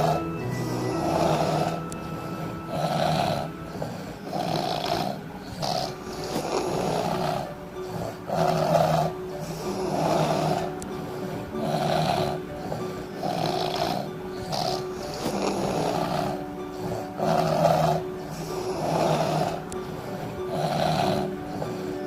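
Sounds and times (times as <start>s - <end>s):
people snoring: 0.0s - 22.0s.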